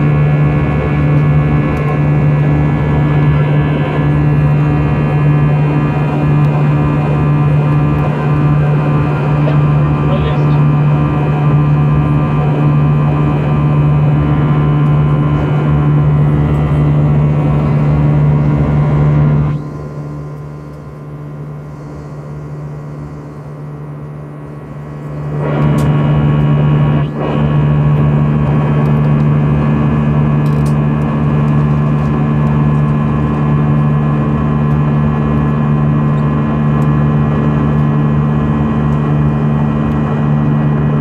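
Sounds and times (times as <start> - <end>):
jet engine drone in cabin: 0.0 - 41.0.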